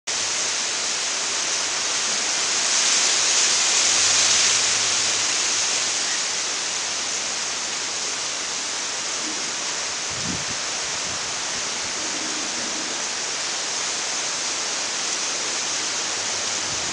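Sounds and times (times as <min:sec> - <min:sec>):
wind rustling palm leaves: 0:00.1 - 0:16.9.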